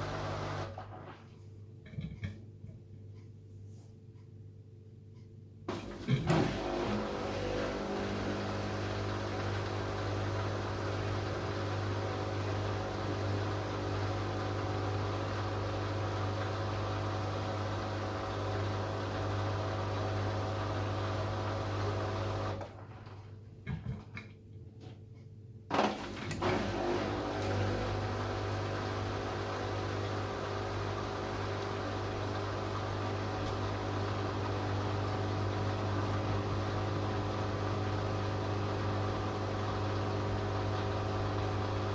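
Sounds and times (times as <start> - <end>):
washing machine humming: 0.0 - 3.4, 5.4 - 24.8, 25.5 - 41.9.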